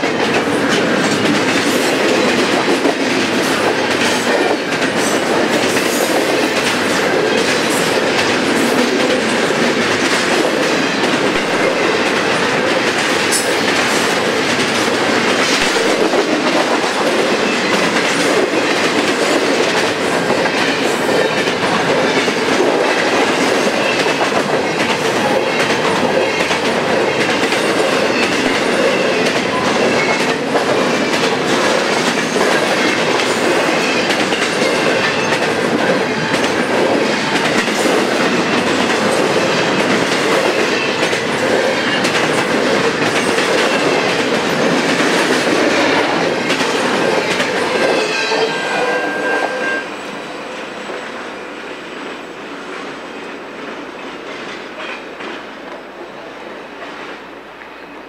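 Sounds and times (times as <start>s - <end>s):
steel wheels rolling on rail: 0.0s - 58.0s.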